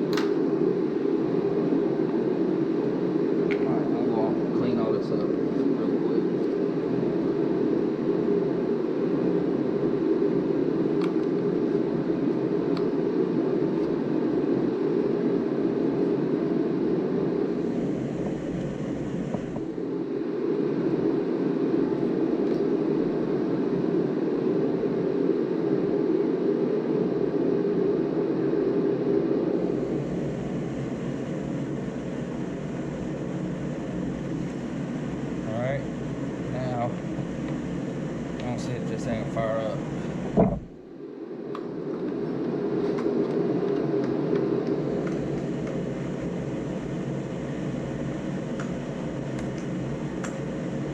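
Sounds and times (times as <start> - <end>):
low droning noise: 0.0 - 50.9.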